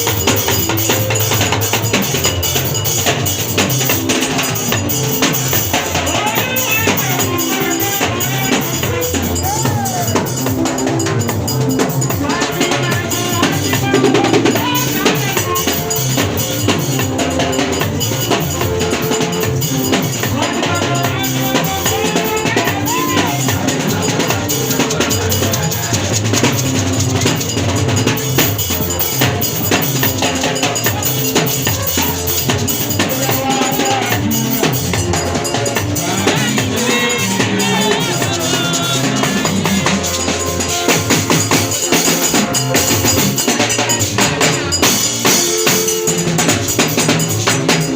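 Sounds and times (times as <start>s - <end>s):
drum kit beat: 0.0s - 47.9s
pitched instruments: 0.0s - 47.9s.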